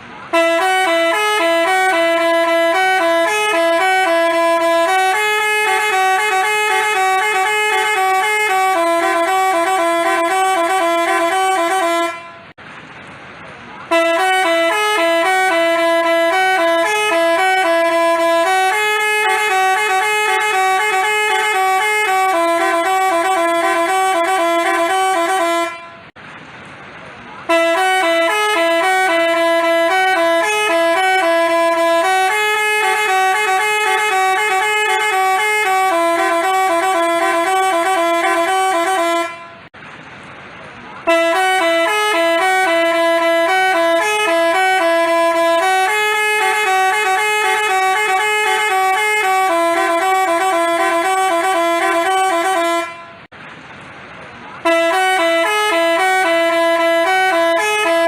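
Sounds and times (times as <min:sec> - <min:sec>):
multi-tone bus horn tune: 0:00.0 - 0:12.6, 0:13.8 - 0:26.2, 0:27.4 - 0:39.8, 0:41.0 - 0:53.3, 0:54.6 - 0:58.0.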